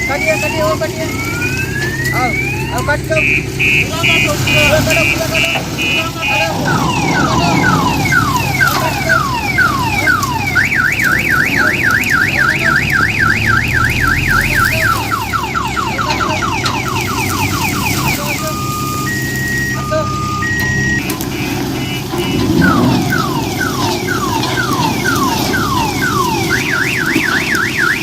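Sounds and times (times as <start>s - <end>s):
low engine rumble: 0.0s - 28.0s
vehicle alarm siren: 0.0s - 28.0s.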